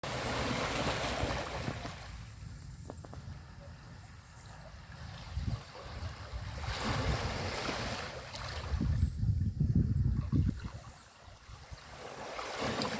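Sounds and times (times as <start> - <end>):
ocean waves on a beach: 0.0 - 2.5, 3.3 - 9.0, 10.5 - 12.9.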